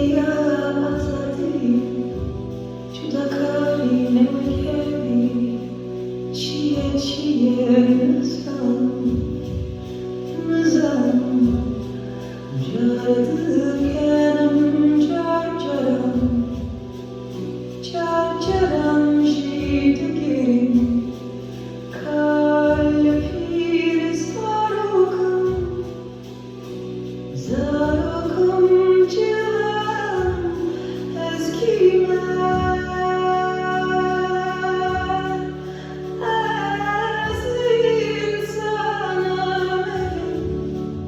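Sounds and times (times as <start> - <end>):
woman singing: 0.0 - 17.0, 17.8 - 26.3, 27.3 - 41.0.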